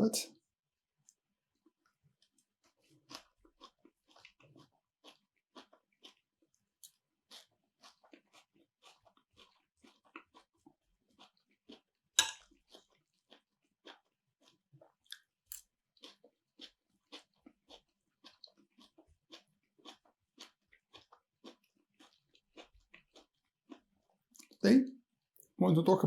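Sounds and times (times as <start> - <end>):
person chewing crunchy food: 1.1 - 24.6.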